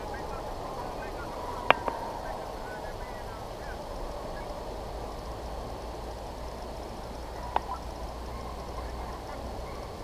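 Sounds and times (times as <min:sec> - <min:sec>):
distant hounds baying: 0:00.0 - 0:10.0.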